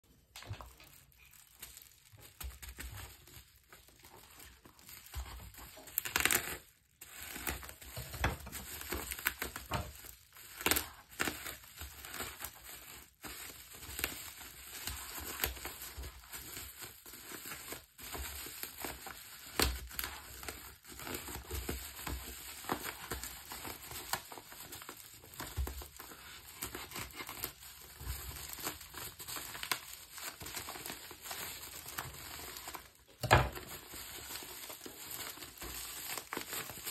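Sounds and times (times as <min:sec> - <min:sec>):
plastic wrap crinkling and tearing: 0:00.0 - 0:36.9.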